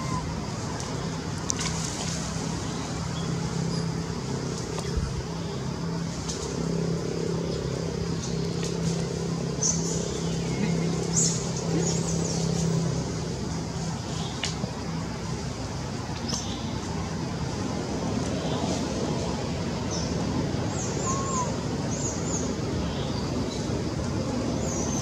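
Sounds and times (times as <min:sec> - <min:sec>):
steady motor drone: 0:00.0 - 0:25.0.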